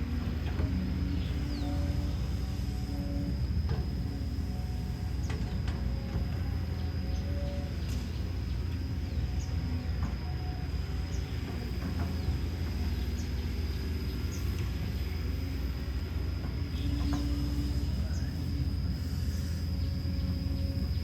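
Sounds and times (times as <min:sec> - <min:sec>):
diesel engine drone: 0:00.0 - 0:21.0
high whine: 0:00.0 - 0:21.0.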